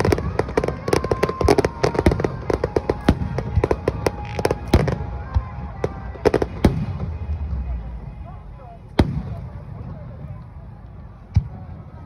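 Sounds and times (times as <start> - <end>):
faint music through loudspeakers: 0.0 - 12.0.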